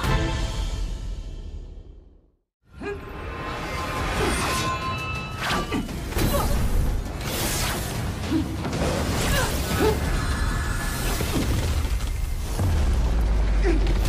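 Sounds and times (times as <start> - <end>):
dramatic soundtrack music: 0.0 - 14.0.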